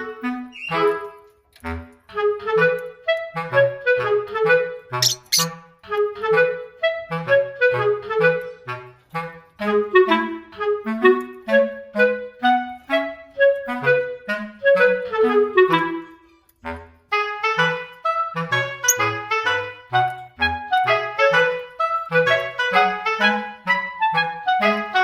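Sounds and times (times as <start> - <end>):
light instrumental tune: 0.0 - 25.0.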